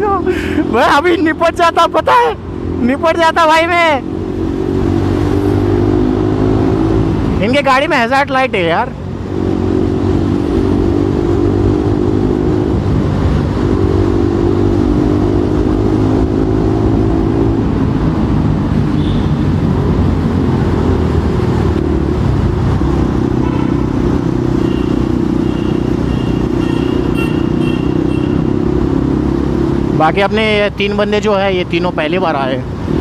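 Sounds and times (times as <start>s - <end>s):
road and wind rumble: 0.0s - 33.0s.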